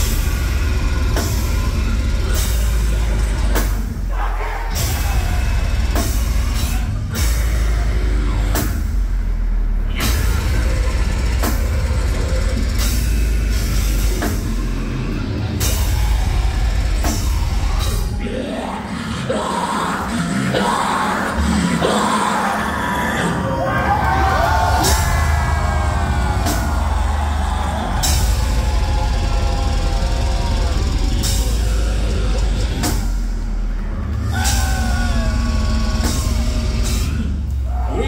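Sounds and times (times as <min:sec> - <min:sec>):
heavy metal band playing live: 0:00.0 - 0:38.0.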